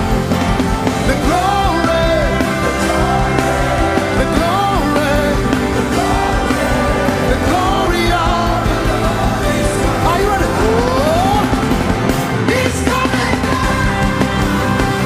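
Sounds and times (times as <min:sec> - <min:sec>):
band chords and bass: 0:00.0 - 0:15.0
person singing: 0:00.9 - 0:15.0.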